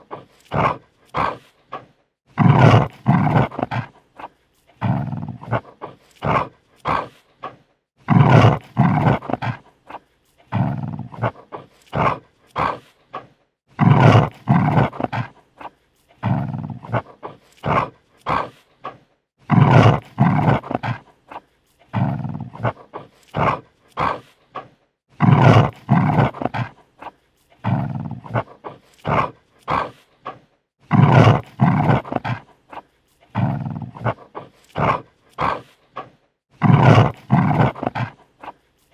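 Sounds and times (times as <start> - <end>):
dog growling: 0.0 - 38.9.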